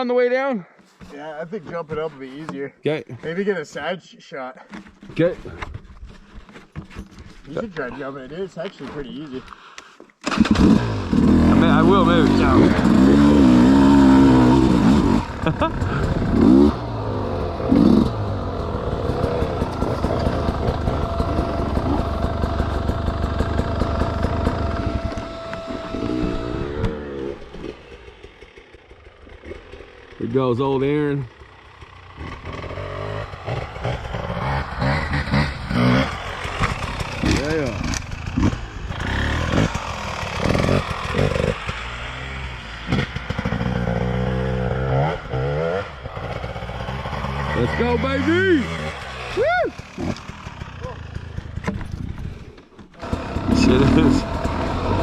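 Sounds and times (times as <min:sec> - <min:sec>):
dirt bike engine idling: 0:10.4 - 0:55.0.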